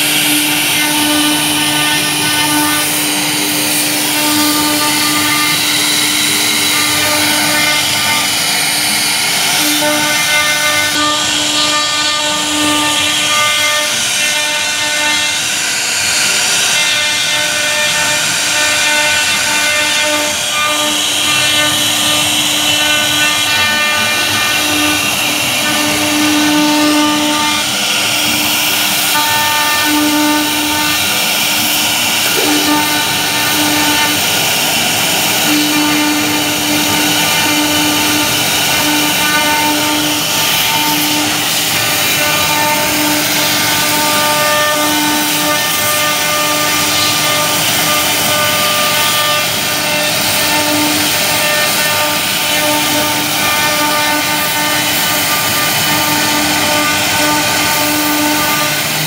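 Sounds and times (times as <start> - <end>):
router spindle whine: 0.0 - 59.0.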